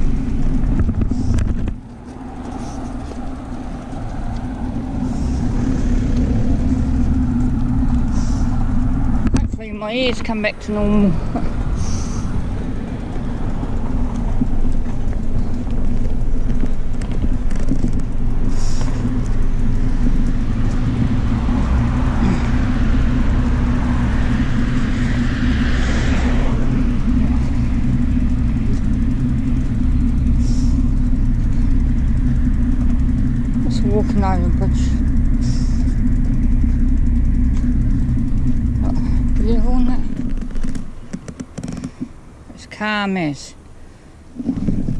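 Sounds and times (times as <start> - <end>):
bike riding rumble: 0.0 - 42.9, 43.6 - 44.9
car passing: 0.0 - 44.9.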